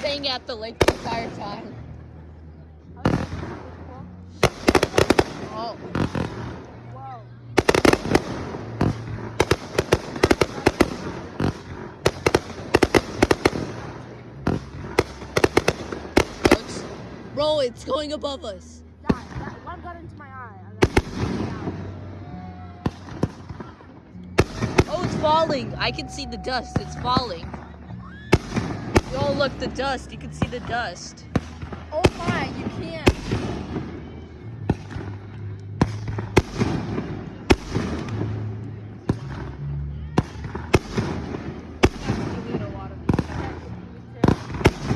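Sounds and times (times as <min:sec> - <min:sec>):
fireworks bangs: 0:00.0 - 0:01.7, 0:03.0 - 0:06.7, 0:07.6 - 0:17.6, 0:20.8 - 0:22.2, 0:24.4 - 0:27.6, 0:28.3 - 0:44.9
fireworks crackling: 0:00.0 - 0:02.0, 0:03.0 - 0:44.9.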